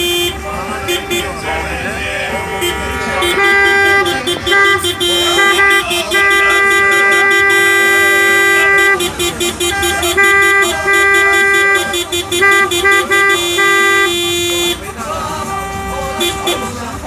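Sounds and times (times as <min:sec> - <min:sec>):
car horn honking: 0:00.0 - 0:17.0.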